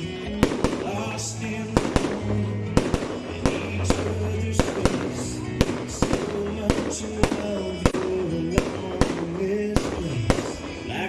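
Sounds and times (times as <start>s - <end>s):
fireworks banging: 0.0s - 11.0s
music with low notes and melody: 0.0s - 11.0s.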